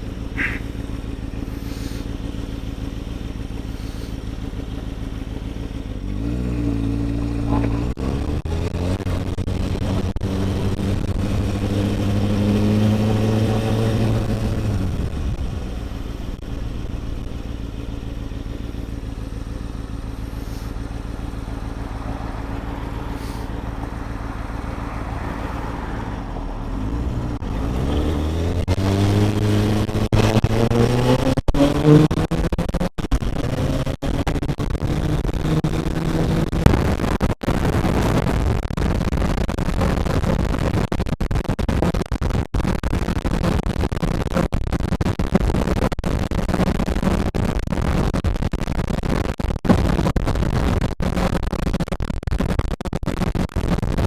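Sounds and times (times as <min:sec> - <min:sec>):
motorcycle engine revving: 0:00.0 - 0:47.4.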